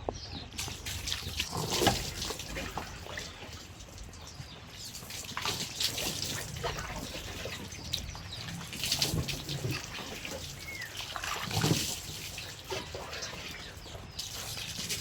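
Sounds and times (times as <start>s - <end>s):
bird chirp: 0.0s - 15.0s
water dripping and trickling: 0.1s - 15.0s.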